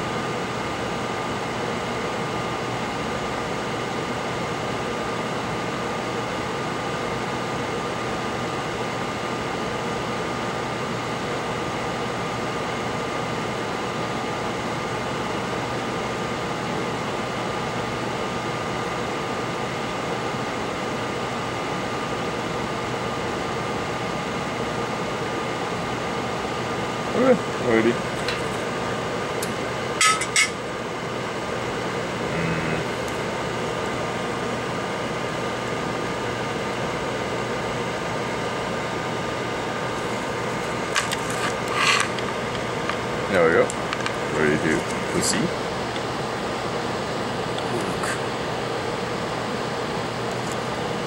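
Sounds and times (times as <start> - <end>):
fan humming: 0.0 - 51.0.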